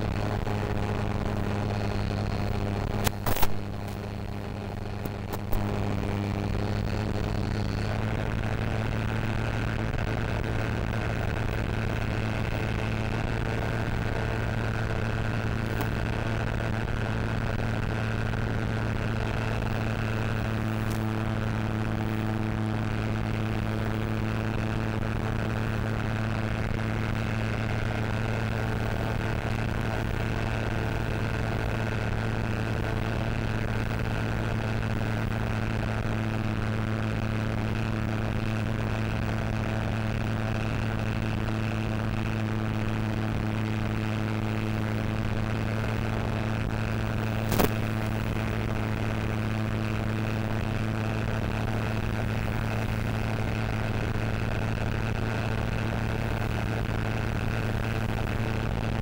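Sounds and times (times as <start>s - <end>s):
electric model plane motor drone: 0.0s - 59.0s.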